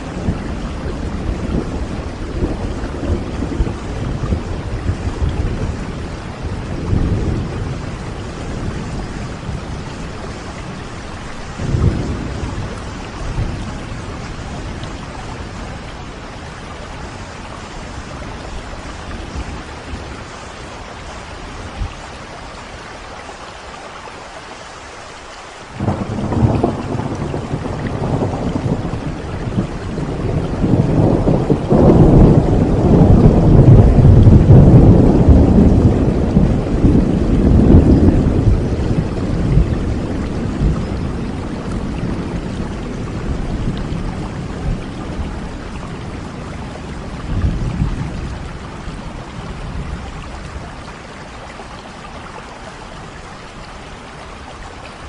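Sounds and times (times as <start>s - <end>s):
thunder rumbling: 0.0s - 22.1s, 25.7s - 51.1s
steady rain: 0.0s - 55.0s.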